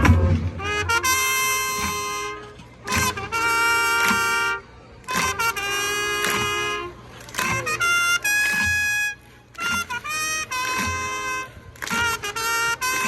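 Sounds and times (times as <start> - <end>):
brass band long held chords: 0.0 - 13.0.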